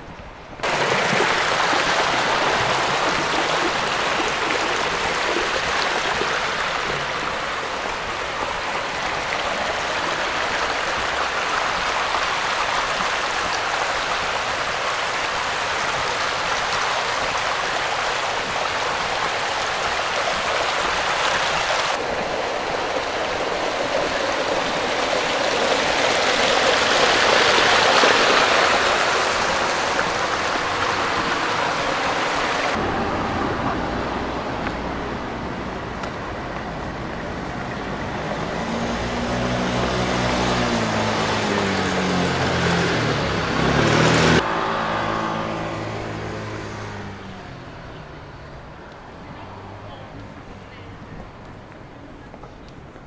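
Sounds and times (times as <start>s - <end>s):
running water rushing: 0.0s - 50.4s.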